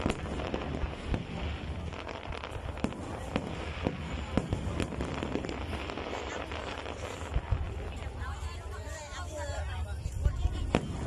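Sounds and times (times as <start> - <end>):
fireworks crackle: 0.0 - 11.0.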